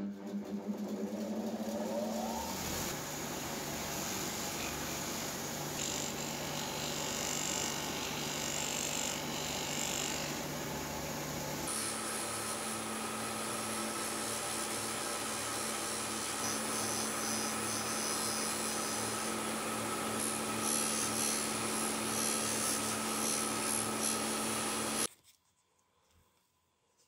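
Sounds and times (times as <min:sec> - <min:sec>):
bench grinder motor hum: 0:00.0 - 0:25.1.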